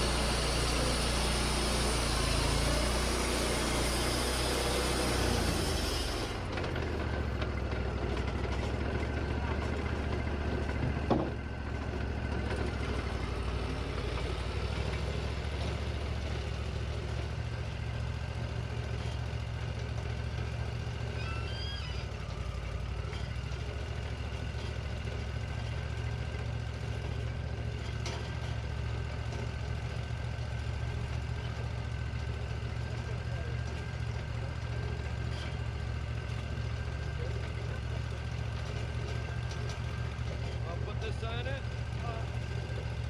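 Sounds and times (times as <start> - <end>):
band sawmill running: 0.0 - 43.0.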